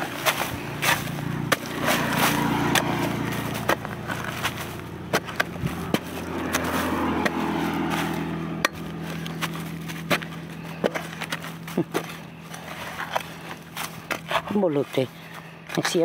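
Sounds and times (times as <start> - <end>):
steady low hum: 0.0 - 15.8
spade scraping dry earth: 0.0 - 16.0.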